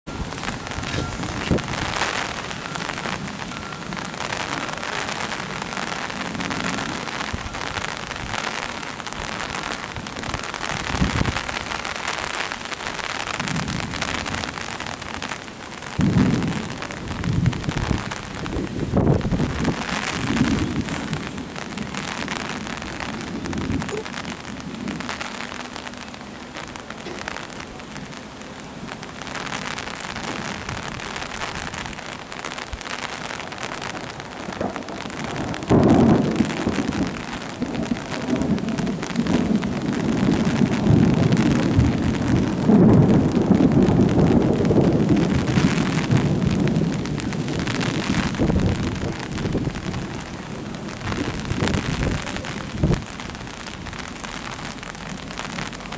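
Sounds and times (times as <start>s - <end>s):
rain falling: 0.0s - 55.9s
rolling thunder: 0.1s - 28.1s, 28.7s - 55.9s.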